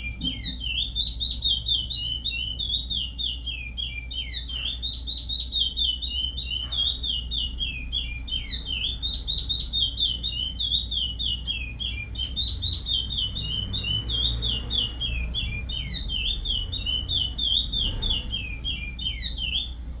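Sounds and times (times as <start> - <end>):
bird singing whistled notes: 0.0 - 19.9.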